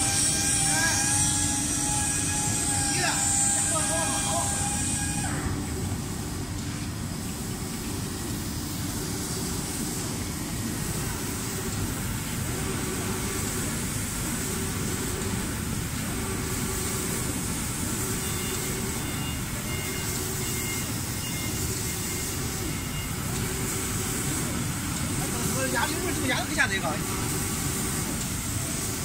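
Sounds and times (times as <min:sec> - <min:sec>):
spray painting machine noise: 0:00.0 - 0:29.0.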